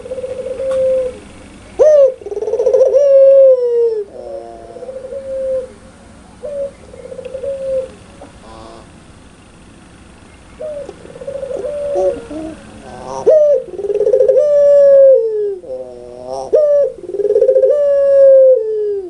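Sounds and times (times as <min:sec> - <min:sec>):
dove cooing: 0:00.0 - 0:09.0, 0:10.4 - 0:19.0.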